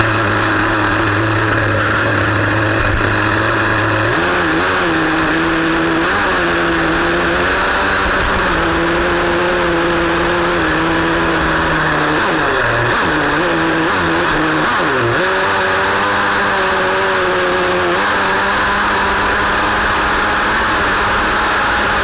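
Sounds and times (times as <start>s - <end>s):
small engine buzzing: 0.0s - 22.0s.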